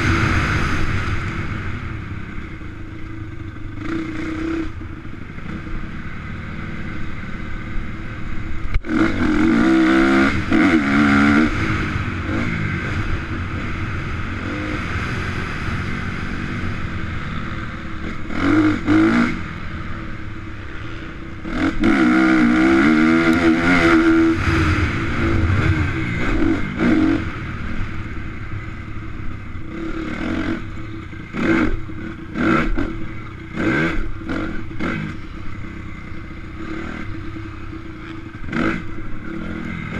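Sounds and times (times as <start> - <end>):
dirt bike engines revving and passing: 0.0 - 39.9.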